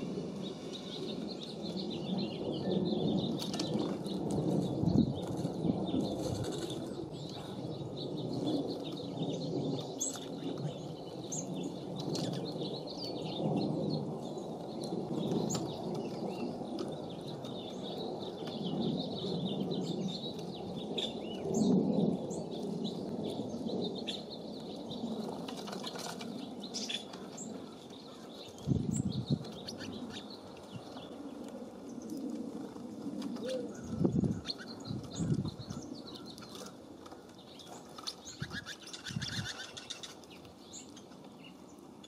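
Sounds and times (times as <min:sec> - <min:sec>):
songbirds chirping: 0:00.0 - 0:42.0
wind gusting on microphone: 0:00.0 - 0:42.0.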